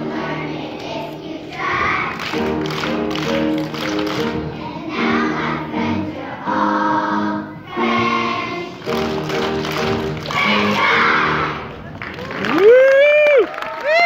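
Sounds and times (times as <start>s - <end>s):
children's choir singing: 0.0s - 11.8s.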